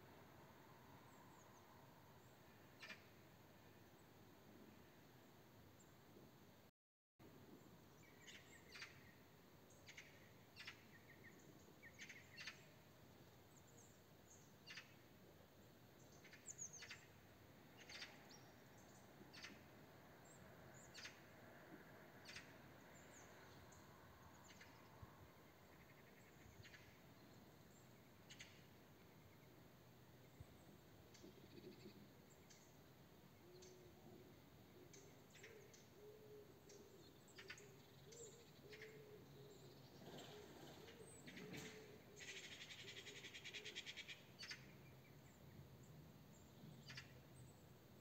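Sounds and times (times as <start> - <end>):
faint outdoor background noise: 0.0 - 48.0.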